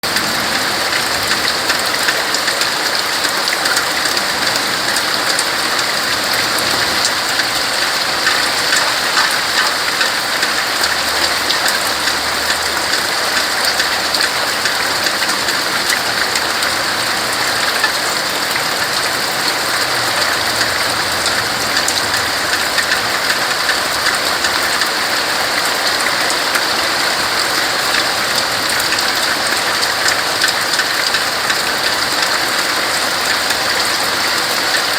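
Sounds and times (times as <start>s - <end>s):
rain falling on leaves: 0.0s - 34.9s.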